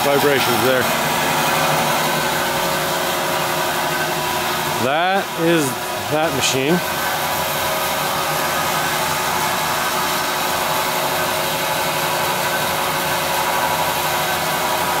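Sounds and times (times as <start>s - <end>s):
band saw motor whirring: 0.0s - 15.0s.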